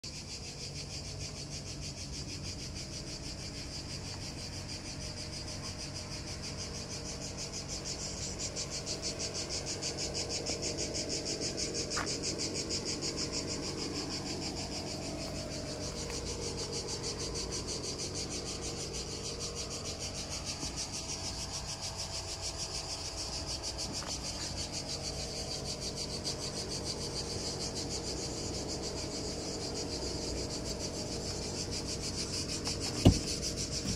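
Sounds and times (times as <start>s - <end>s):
insects chirring: 0.0s - 33.9s
steady low hum: 0.1s - 33.9s.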